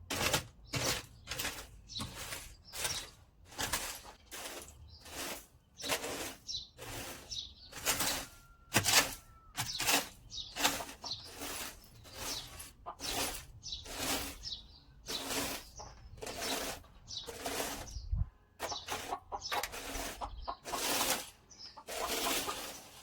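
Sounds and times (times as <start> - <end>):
scraping strokes: 0.0 - 23.0.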